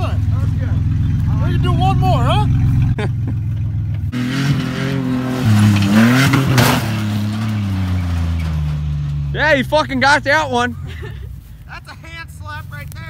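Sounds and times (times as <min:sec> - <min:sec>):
truck engine revving: 0:00.0 - 0:10.8.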